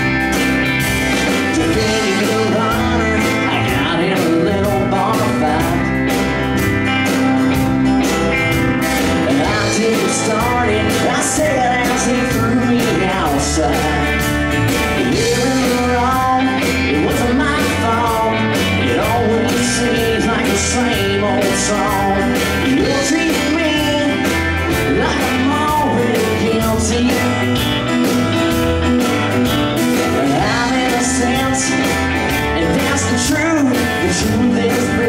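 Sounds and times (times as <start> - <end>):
drums: 0.0 - 35.0
live country band playing: 0.0 - 35.0
pedal steel guitar: 0.0 - 35.0.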